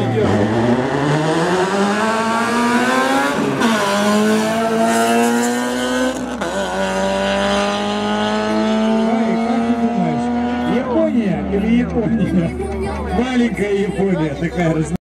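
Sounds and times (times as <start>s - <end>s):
car engines accelerating: 0.0s - 15.0s.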